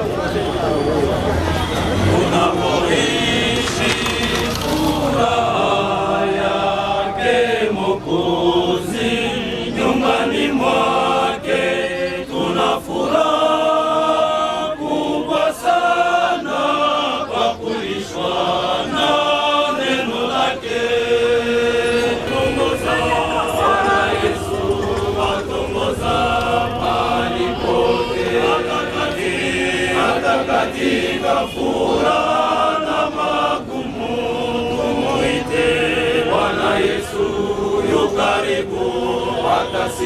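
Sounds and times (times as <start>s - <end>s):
group singing a hymn: 1.7s - 40.0s.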